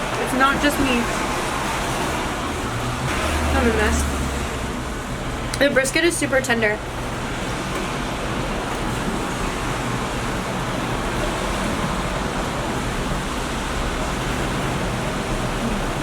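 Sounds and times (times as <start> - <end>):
rushing room noise: 0.0 - 16.0.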